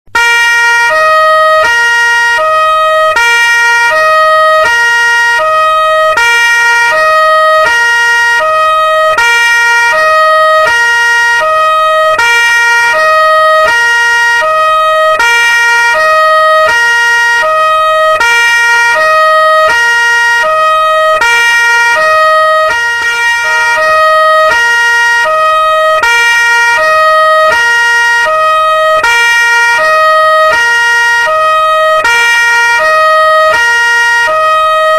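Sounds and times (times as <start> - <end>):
two-tone police siren: 0.1 - 34.9.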